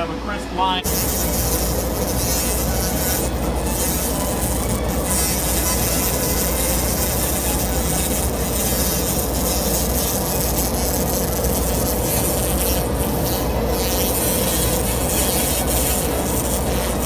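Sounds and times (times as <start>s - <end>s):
machine hum: 0.0s - 17.0s
laser hissing on stone: 0.8s - 17.0s.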